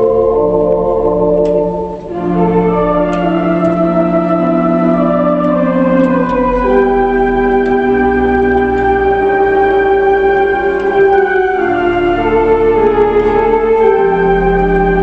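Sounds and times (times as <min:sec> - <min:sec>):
deep organ pedal bass: 0:00.0 - 0:15.0
organ playing slow chords: 0:00.0 - 0:15.0.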